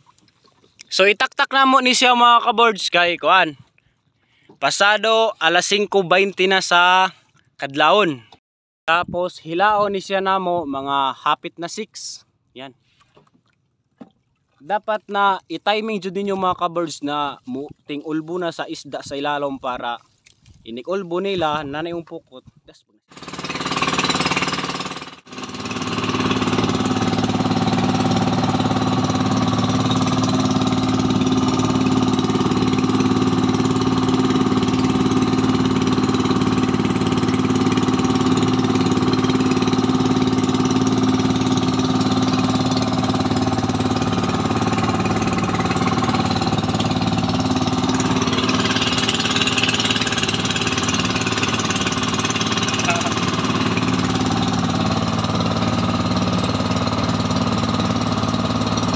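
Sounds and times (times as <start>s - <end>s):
boat engine chugging: 0.0s - 7.1s, 14.0s - 19.9s, 23.1s - 58.9s.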